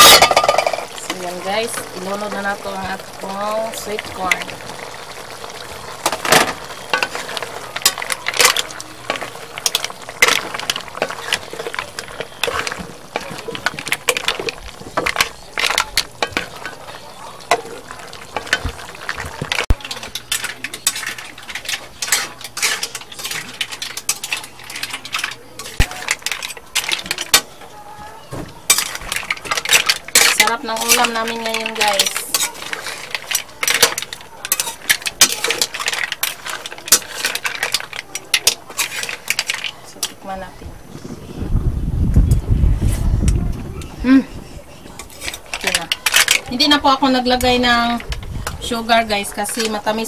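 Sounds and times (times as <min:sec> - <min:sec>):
spatula clinking and scraping wok: 0:00.0 - 0:27.7, 0:28.6 - 0:40.4, 0:44.8 - 0:50.0.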